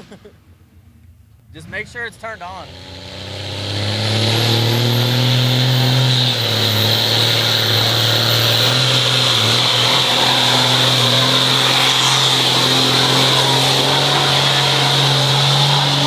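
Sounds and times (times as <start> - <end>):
diesel truck engine revving high: 1.6 - 16.0.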